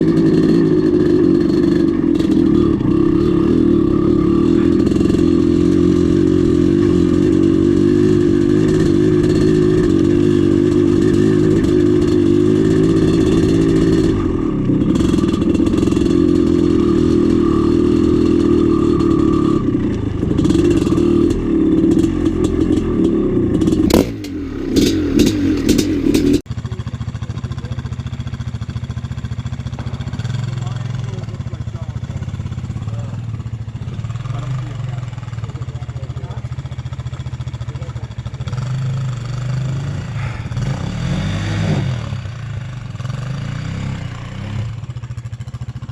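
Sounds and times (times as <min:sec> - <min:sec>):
dirt bike engine revving: 0:00.0 - 0:45.9
clatter: 0:04.1 - 0:41.0.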